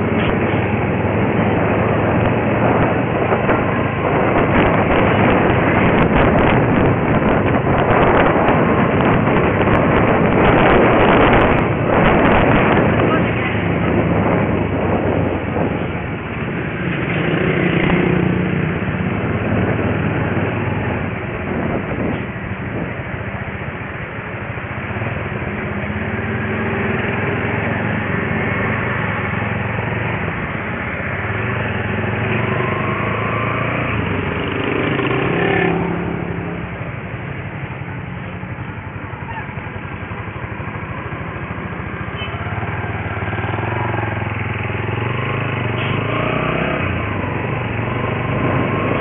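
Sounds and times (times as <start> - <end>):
motorcycle engines running: 0.0 - 49.0
vehicles passing: 0.0 - 49.0.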